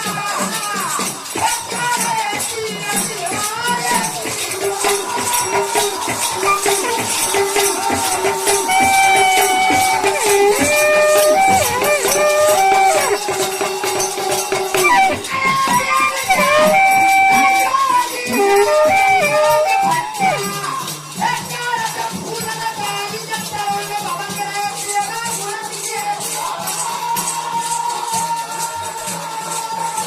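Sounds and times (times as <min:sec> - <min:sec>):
jingling hand percussion: 0:00.0 - 0:30.0.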